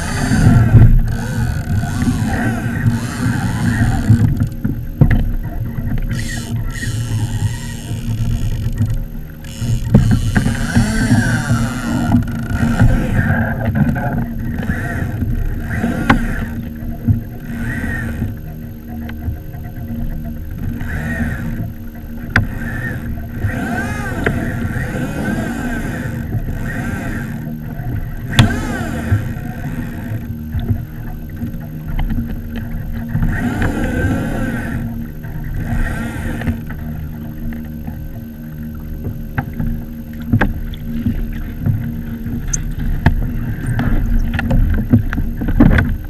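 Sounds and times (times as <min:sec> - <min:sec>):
water slapping kayak hull: 0:00.0 - 0:46.0.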